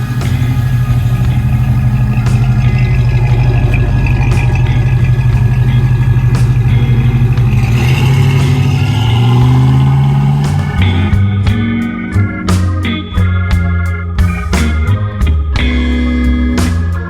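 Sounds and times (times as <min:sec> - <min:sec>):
music: 0:00.0 - 0:17.0
truck engine idling: 0:00.0 - 0:17.0.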